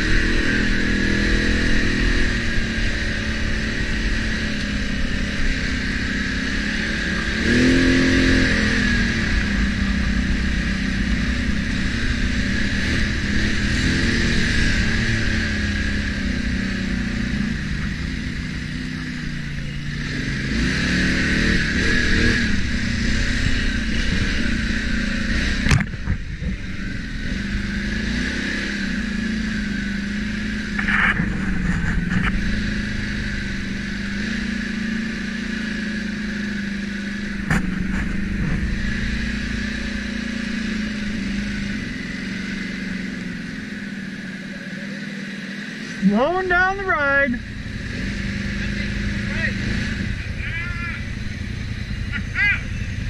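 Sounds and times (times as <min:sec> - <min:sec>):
atv engine revving: 0:00.0 - 0:53.0
steady high whine: 0:00.0 - 0:53.0.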